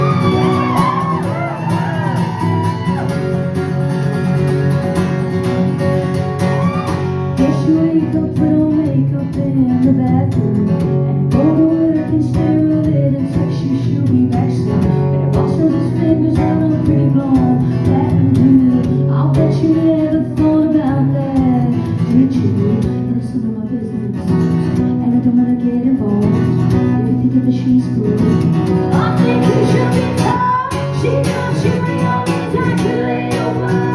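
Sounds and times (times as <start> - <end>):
live band music led by guitar: 0.0 - 33.9.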